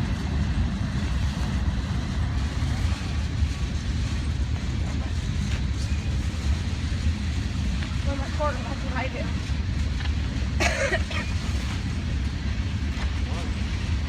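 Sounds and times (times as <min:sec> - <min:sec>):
train cars rumbling past: 0:00.0 - 0:14.0.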